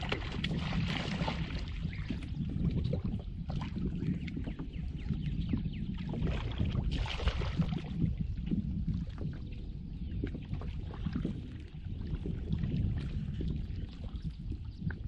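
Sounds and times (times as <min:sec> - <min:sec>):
low rumble of wind and water: 0:00.0 - 0:15.0.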